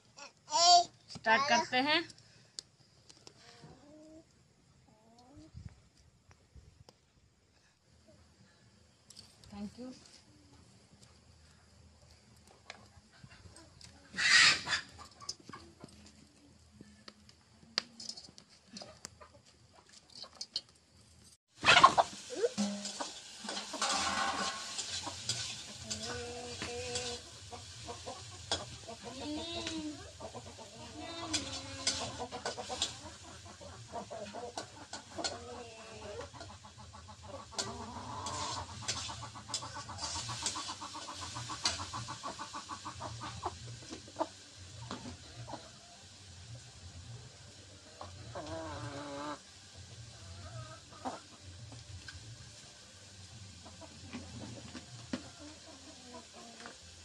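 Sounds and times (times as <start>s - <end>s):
chickens clucking: 10.4s - 20.8s, 21.6s - 57.0s.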